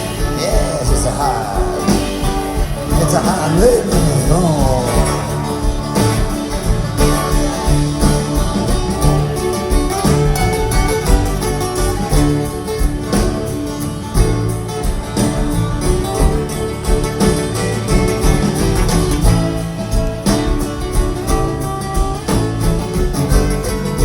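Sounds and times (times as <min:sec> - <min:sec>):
live folk-rock band playing: 0:00.0 - 0:24.0.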